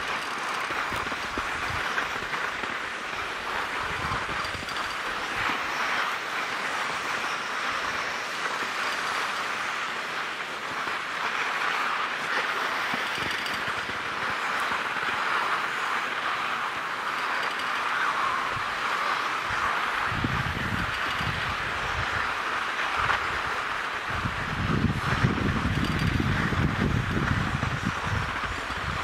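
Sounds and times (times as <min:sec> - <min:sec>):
skis sliding over snow: 0:00.0 - 0:29.0.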